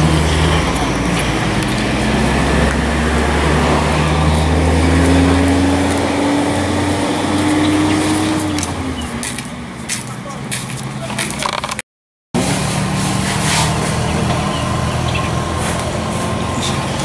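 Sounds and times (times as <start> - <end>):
vehicle engine running: 0.0 - 11.8, 12.4 - 17.0.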